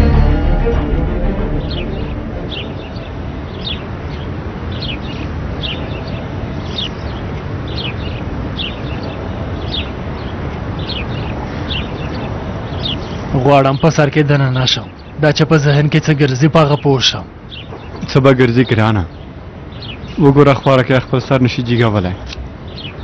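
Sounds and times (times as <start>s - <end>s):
steady background noise: 0.0s - 23.0s
birds chirping: 1.1s - 23.0s.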